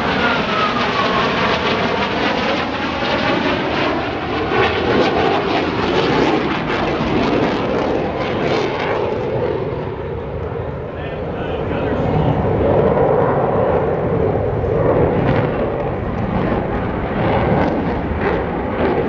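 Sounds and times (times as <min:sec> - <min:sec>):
jet engines roaring: 0:00.0 - 0:19.0
jet whine falling in pitch: 0:00.0 - 0:19.0.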